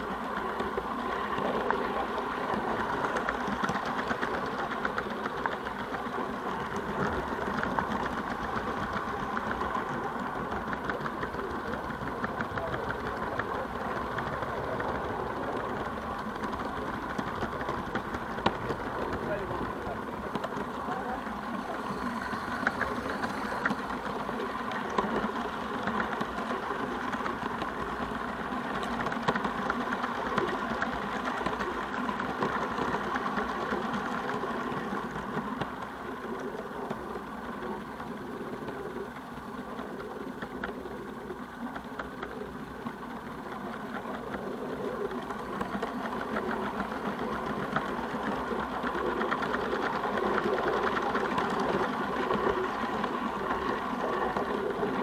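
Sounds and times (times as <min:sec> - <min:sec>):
steam locomotive exhaust chuffs: 0:00.0 - 0:55.0
wheels clicking on track: 0:00.0 - 0:55.0.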